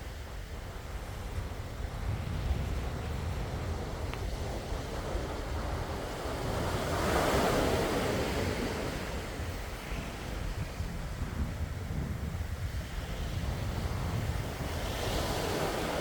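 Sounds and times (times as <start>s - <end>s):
sea waves washing ashore: 0.0s - 16.0s.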